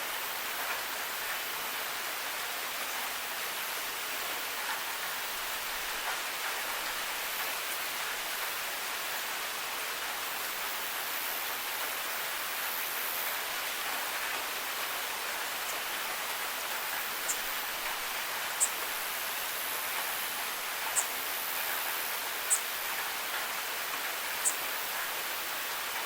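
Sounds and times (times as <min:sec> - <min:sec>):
rain pattering on hard surfaces: 0:00.0 - 0:26.0.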